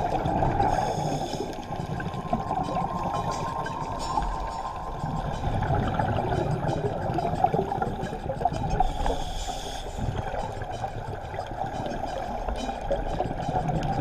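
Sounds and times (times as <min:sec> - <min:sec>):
low underwater rumble: 0:00.0 - 0:14.0
underwater bubbling of exhaled bubbles: 0:00.0 - 0:14.0.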